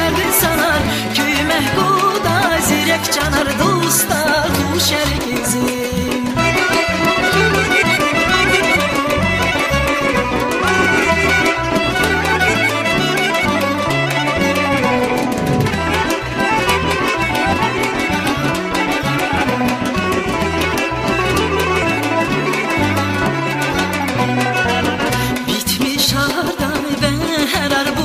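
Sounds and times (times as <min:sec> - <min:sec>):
folk pop instrumental: 0:00.0 - 0:28.0.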